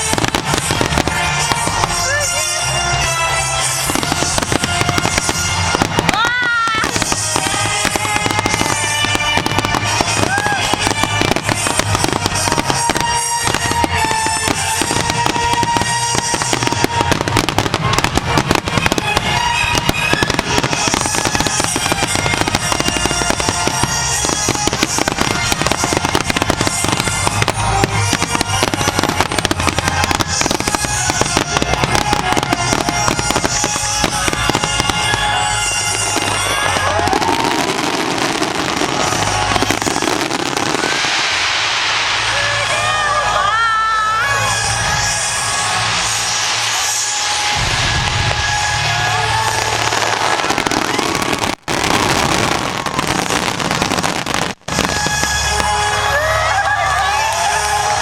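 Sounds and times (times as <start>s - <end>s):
fireworks bursting and crackling: 0.0s - 58.0s
music playing: 0.0s - 58.0s.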